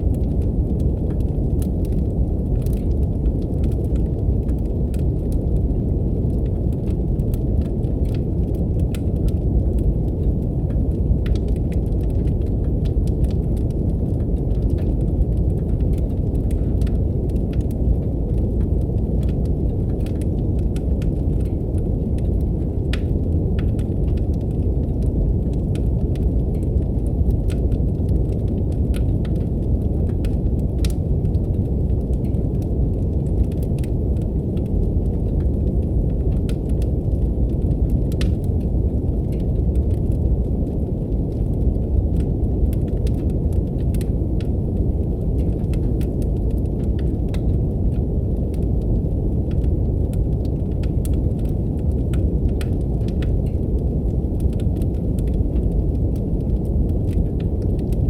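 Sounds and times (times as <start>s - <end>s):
deep brown noise: 0.0s - 58.0s
wood fire crackling: 0.0s - 58.0s.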